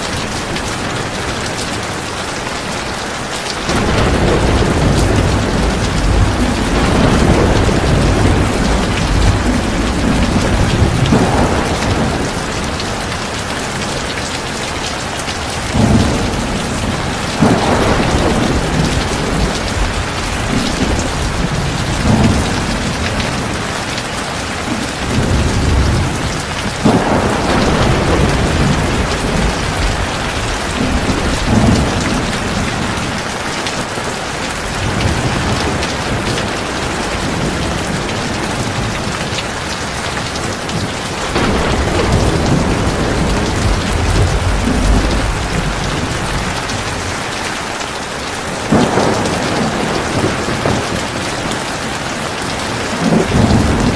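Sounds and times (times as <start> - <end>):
heavy rain falling: 0.0 - 53.9
thunder rumbles: 0.0 - 53.9.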